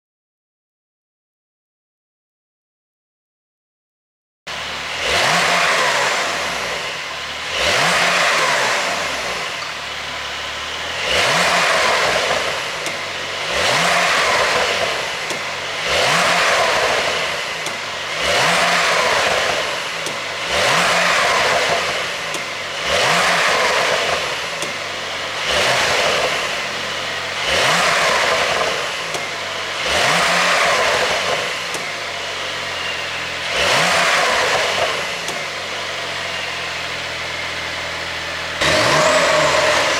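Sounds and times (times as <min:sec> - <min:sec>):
car engine revving: 0:04.5 - 0:39.9.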